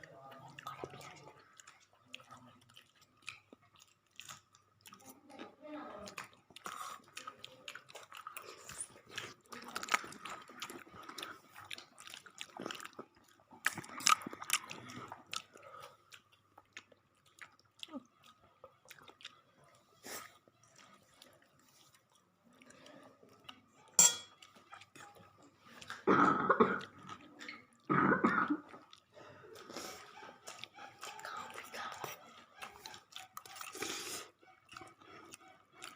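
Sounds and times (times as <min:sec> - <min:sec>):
person chewing crunchy food: 0:00.3 - 0:05.4, 0:06.0 - 0:35.9.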